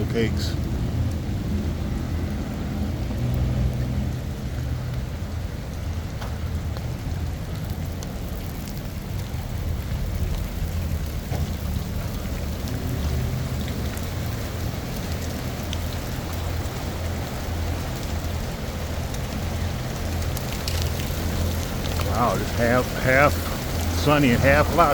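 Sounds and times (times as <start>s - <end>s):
constant low rumble: 0.0s - 24.9s
steady rain falling: 0.0s - 24.9s.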